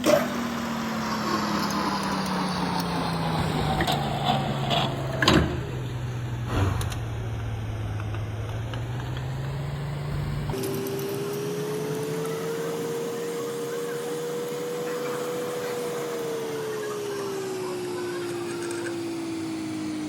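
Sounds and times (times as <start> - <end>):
lathe spindle hum: 0.0 - 20.0.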